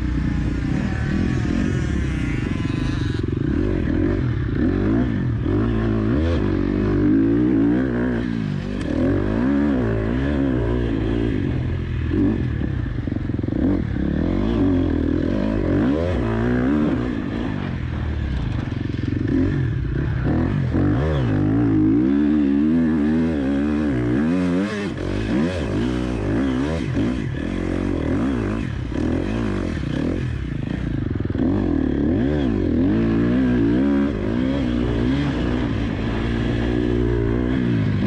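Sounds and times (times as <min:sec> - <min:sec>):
motocross engine revving: 0:00.0 - 0:38.0.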